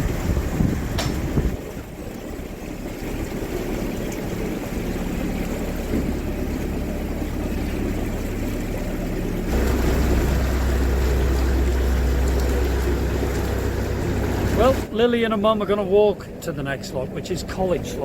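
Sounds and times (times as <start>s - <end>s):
boat diesel engine running: 0.0s - 18.0s.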